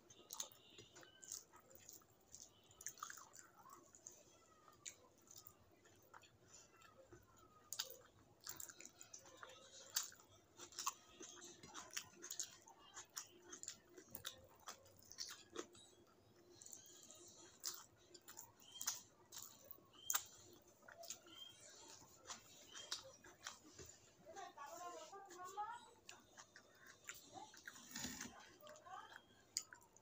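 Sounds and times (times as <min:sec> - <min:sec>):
wet chewing: 0:00.0 - 0:30.0.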